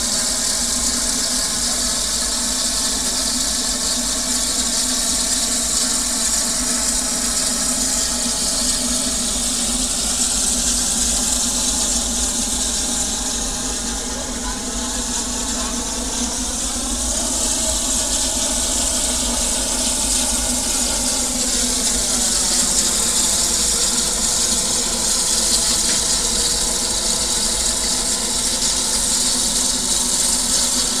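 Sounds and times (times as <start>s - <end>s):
steam locomotive hissing: 0.0s - 31.0s.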